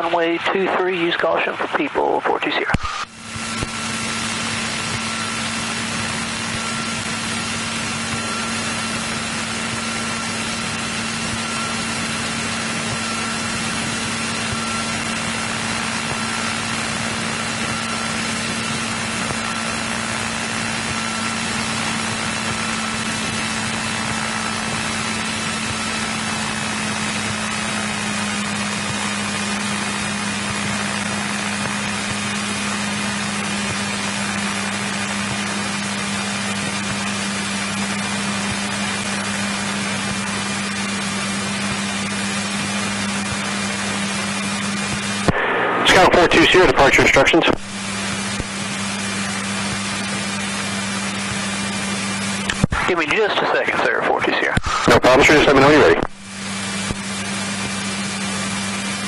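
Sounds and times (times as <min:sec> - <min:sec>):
airplane engine droning: 0:00.0 - 0:59.0.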